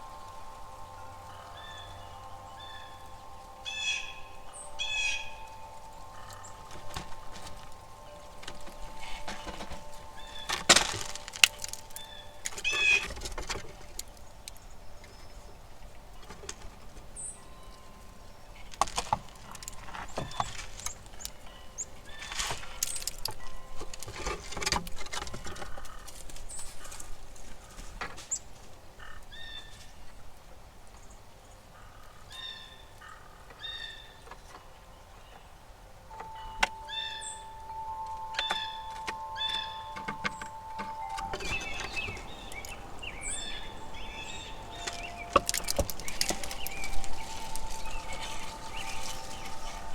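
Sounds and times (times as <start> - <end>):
steady chime tone: 0.0 - 25.2, 34.6 - 49.9
rustling: 0.0 - 30.1, 35.9 - 49.9
small birds chirping: 0.0 - 49.9.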